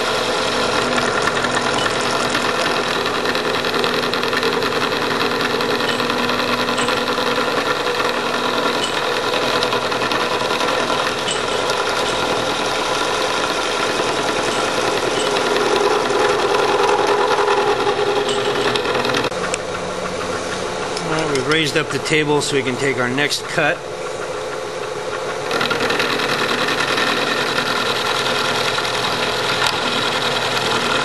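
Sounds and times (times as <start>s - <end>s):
milling machine cutting metal: 0.0s - 31.0s.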